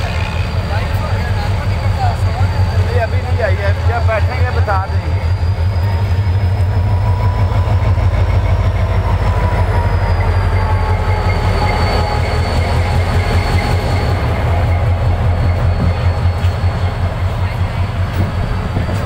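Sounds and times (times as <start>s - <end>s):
locomotive engine throb: 0.0s - 19.0s.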